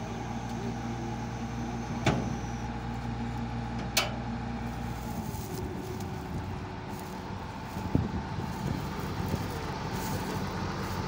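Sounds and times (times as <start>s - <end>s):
combine harvester engine humming: 0.0s - 11.0s.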